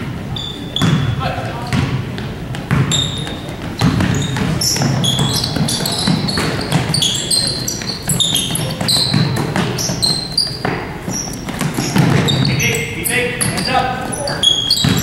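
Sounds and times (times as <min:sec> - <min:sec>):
sneakers squeaking on court: 0:00.2 - 0:15.0
basketball dribbling on hardwood: 0:00.8 - 0:01.1, 0:01.7 - 0:13.7, 0:14.4 - 0:15.0.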